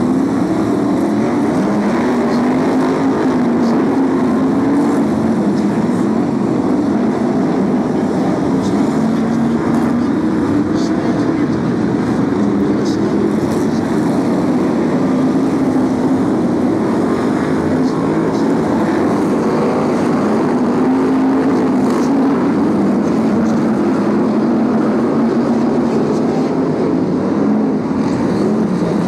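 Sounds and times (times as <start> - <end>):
race car engines running hard: 0.0 - 29.0.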